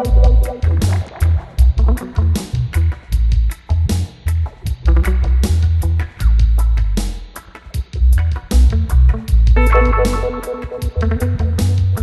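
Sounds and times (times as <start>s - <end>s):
heavy bass line: 0.0s - 7.3s, 8.0s - 12.0s
reggae band playing: 0.0s - 12.0s.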